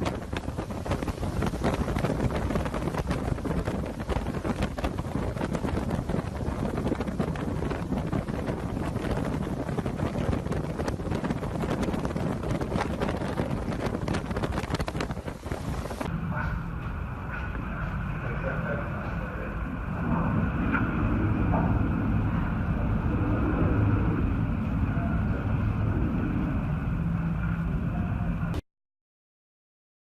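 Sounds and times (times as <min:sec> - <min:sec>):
wind buffeting microphone: 0:00.0 - 0:28.6.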